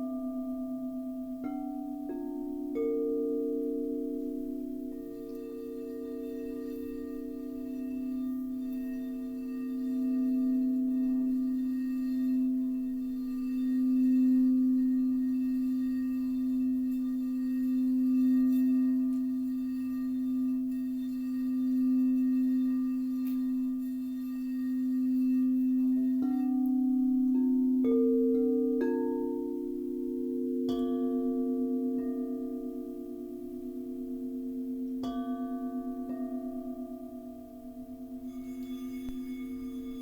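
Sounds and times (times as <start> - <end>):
low singing bowl ringing: 0.0 - 40.0.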